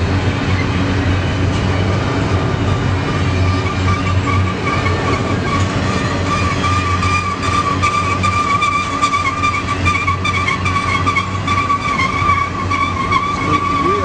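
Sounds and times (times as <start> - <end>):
train wheels rumbling and clicking: 0.0 - 14.0
train wheels squealing: 0.4 - 0.8, 2.7 - 14.0.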